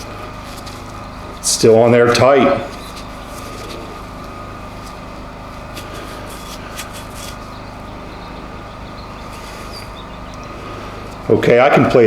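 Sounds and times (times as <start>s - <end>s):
workshop mechanical hum: 0.0s - 12.0s.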